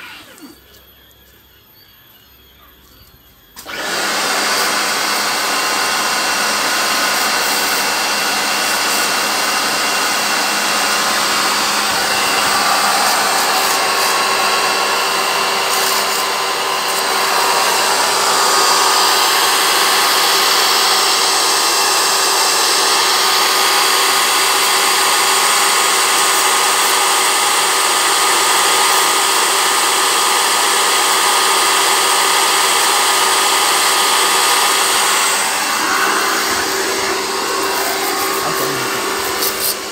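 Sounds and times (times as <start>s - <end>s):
pressure washer motor hum: 3.6s - 39.9s.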